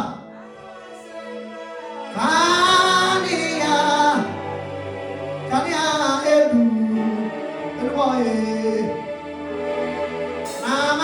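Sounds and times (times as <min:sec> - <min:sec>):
gospel singing voice: 0:00.0 - 0:11.0
sustained instrumental chords: 0:00.0 - 0:11.0.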